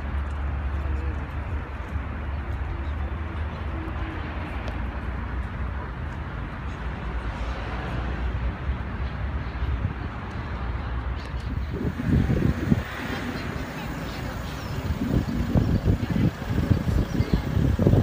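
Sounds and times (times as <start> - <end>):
passing traffic: 0.0 - 18.0.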